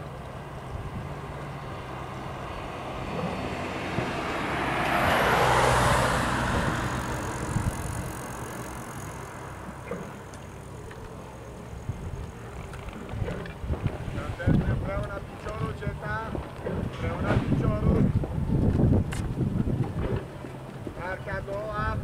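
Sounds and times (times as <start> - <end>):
steady low hum: 0.0 - 5.3, 5.9 - 22.0
vehicle passing by: 0.0 - 21.9.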